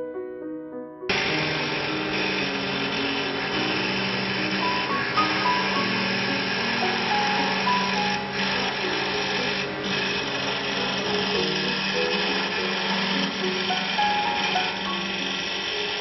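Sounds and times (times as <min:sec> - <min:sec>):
wood lathe cutting: 0:01.1 - 0:16.0.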